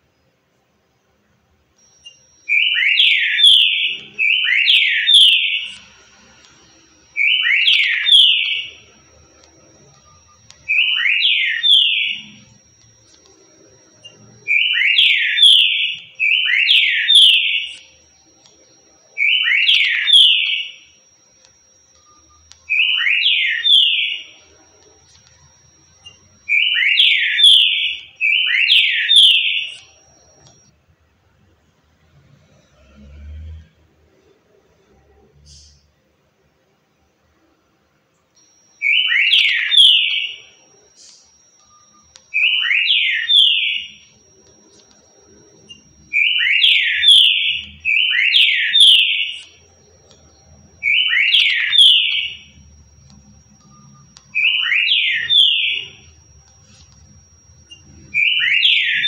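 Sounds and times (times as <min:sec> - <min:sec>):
faint high whine: 0:00.0 - 0:59.0.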